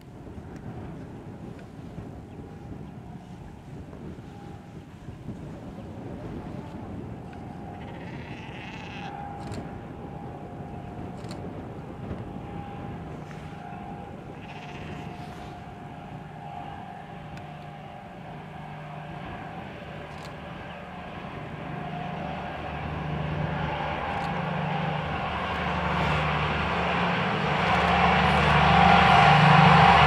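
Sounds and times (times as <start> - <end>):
diesel locomotive engine drone: 0.0 - 30.0.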